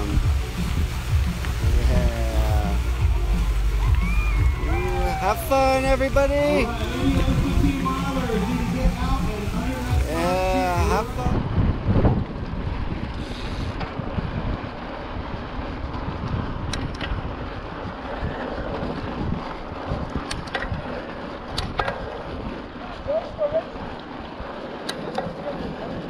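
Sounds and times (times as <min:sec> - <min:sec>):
low rumble: 0:00.0 - 0:24.8
wind buffeting microphone: 0:00.0 - 0:26.0.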